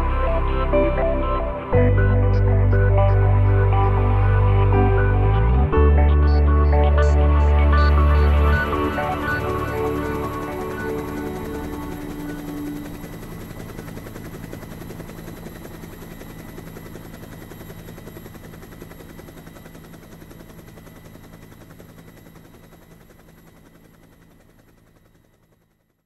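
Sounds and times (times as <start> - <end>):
turbine whine: 0.0 - 25.6
helicopter rotor blades beating: 0.0 - 25.8.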